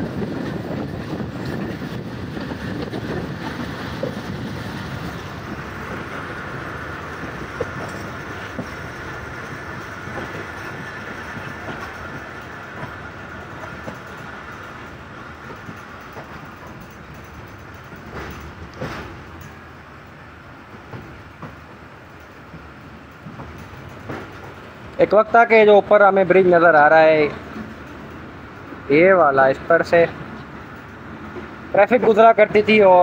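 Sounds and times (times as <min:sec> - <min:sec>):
train wheels rumbling on rail: 0:00.0 - 0:33.0
clicks at rail joints: 0:00.1 - 0:26.1, 0:29.9 - 0:33.0.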